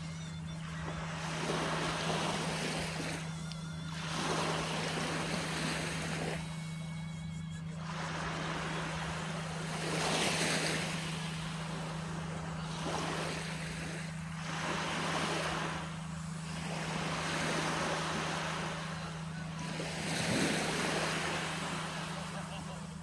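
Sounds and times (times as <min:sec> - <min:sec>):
small waves breaking on beach: 0:00.0 - 0:23.0
steady low hum: 0:00.0 - 0:23.0.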